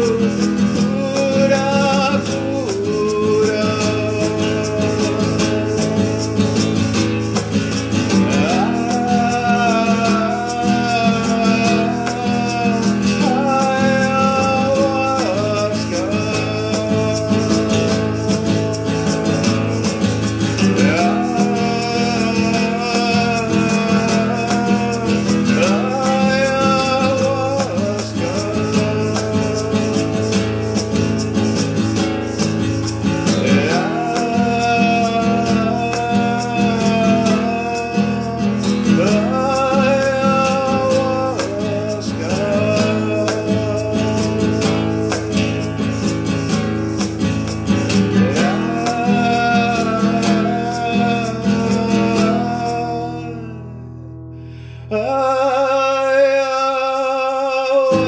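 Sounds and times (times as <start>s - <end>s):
man singing: 0.0s - 53.8s, 54.6s - 58.0s
strummed acoustic guitar: 0.0s - 58.0s.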